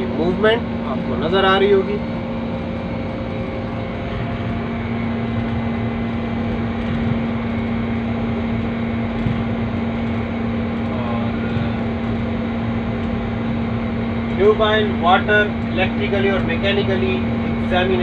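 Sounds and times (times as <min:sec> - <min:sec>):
locomotive engine drone: 0:00.0 - 0:18.0.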